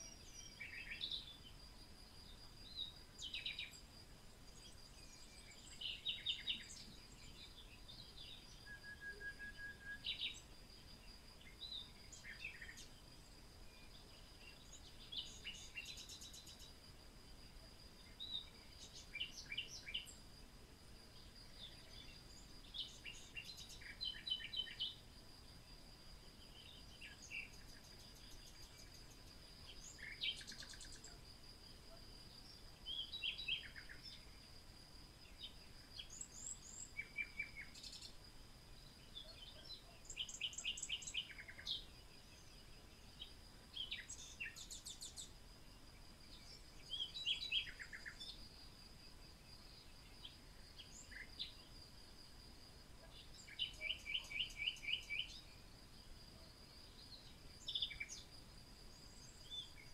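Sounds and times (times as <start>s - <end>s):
small birds chirping and trilling: 0.0s - 8.8s, 9.7s - 52.2s, 52.8s - 59.9s.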